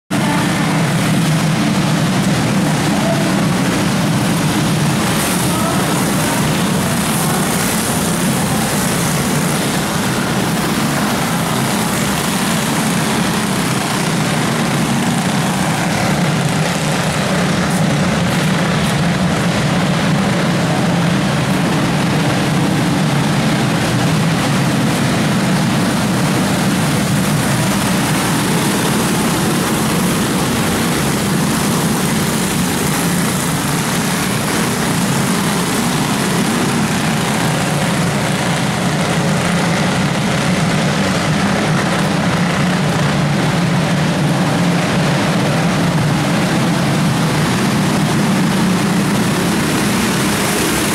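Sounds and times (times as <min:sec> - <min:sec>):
go-kart engines droning: 0:00.1 - 0:50.9.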